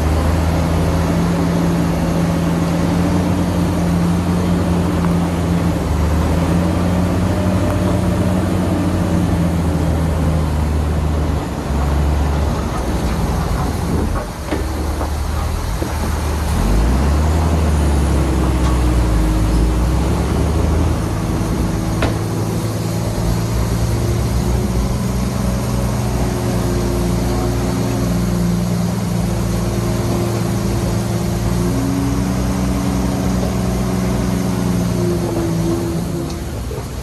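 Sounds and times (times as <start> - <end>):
heavy diesel engine rumbling: 0.0 - 37.0.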